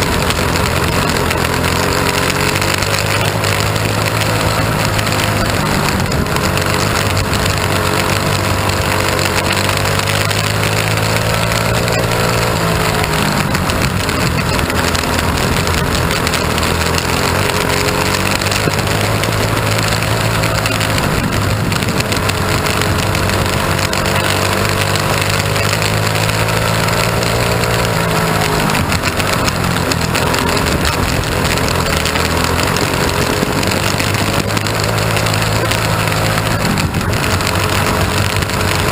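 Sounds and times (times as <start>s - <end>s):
small race car engine running hard: 0.0s - 38.9s
steady rushing noise: 0.0s - 38.9s.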